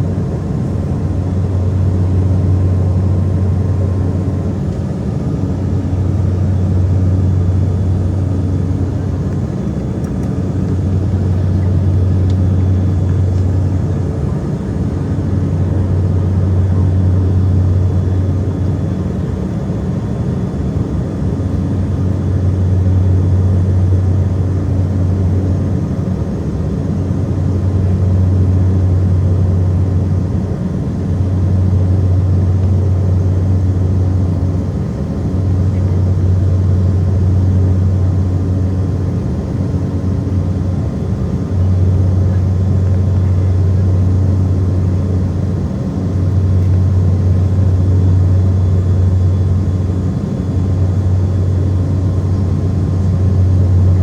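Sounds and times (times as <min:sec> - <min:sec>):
propeller plane cabin drone: 0:00.0 - 0:54.0.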